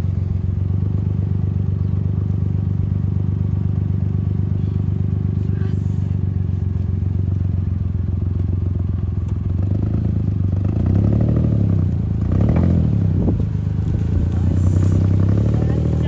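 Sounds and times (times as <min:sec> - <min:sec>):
car engine running and revving: 0:00.0 - 0:16.0.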